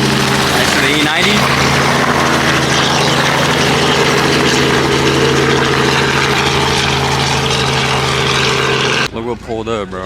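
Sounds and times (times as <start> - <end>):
helicopter engine and rotor: 0.0 - 9.1.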